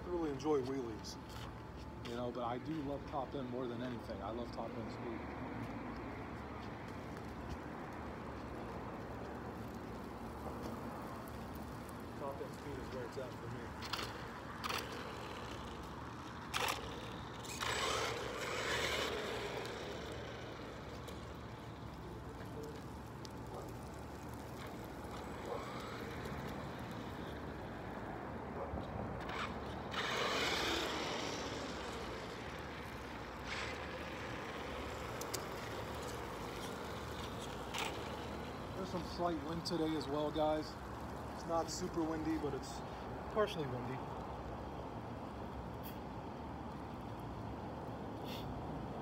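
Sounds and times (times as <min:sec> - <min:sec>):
rc truck motor and tyres: 0:00.0 - 0:49.0.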